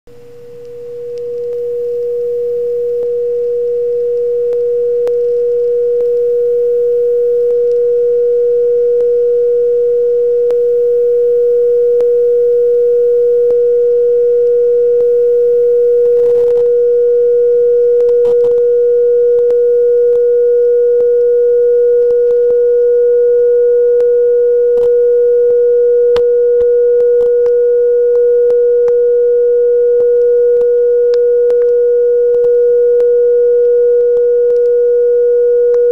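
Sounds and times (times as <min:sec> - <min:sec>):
thermoacoustic engine pure tone: 0:00.1 - 0:35.9.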